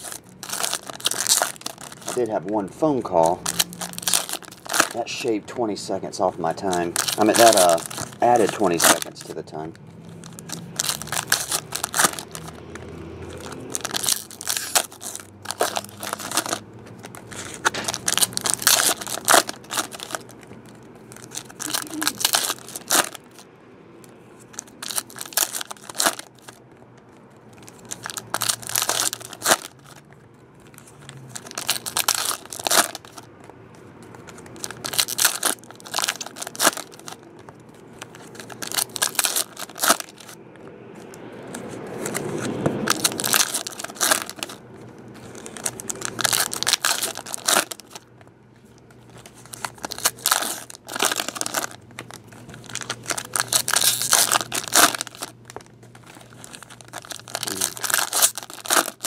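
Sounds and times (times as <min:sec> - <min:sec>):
card pack wrappers tearing: 0:00.0 - 0:23.4, 0:24.4 - 0:30.0, 0:30.6 - 0:33.3, 0:34.0 - 0:40.4, 0:41.4 - 0:48.1, 0:49.0 - 0:59.0.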